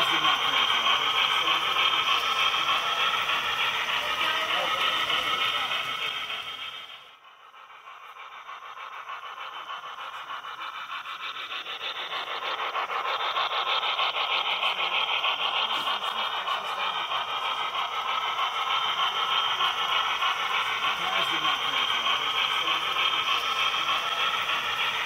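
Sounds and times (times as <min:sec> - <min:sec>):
model steam train running: 0:00.0 - 0:25.0.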